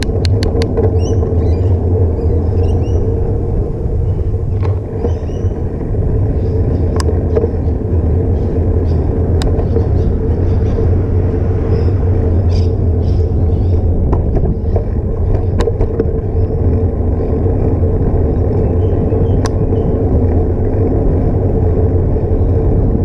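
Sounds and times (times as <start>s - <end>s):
bike rattling ticks: 0.0s - 23.0s
tyre and road rumble: 0.0s - 23.0s
wind rushing over microphone: 0.0s - 23.0s.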